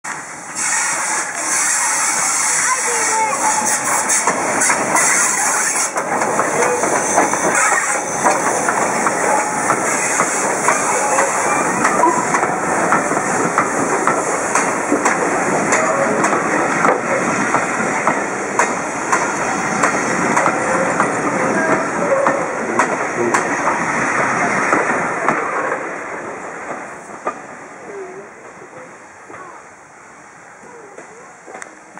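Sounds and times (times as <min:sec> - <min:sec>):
hiss of steam: 0:00.1 - 0:27.9
train wheels on rails: 0:00.1 - 0:31.9.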